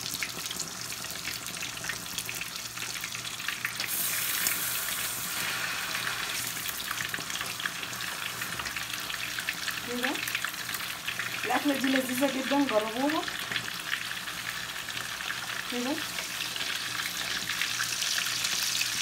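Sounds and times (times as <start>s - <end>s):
steak sizzling in a pan: 0.0s - 19.0s.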